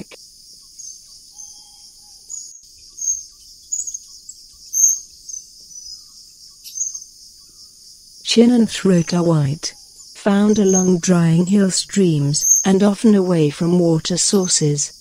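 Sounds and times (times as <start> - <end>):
high-pitched insect chorus: 0.1 - 15.0.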